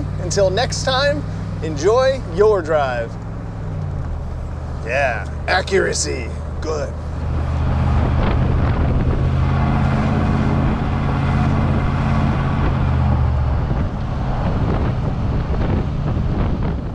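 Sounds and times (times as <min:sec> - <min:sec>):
car engine hum: 0:00.0 - 0:16.9
road and tyre noise: 0:00.0 - 0:16.9.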